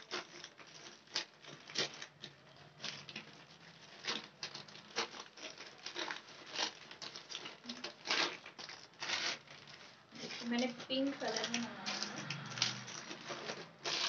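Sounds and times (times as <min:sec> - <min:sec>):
plastic bag crinkling and tearing: 0:00.0 - 0:14.0
sharp plastic crackles: 0:00.0 - 0:14.0.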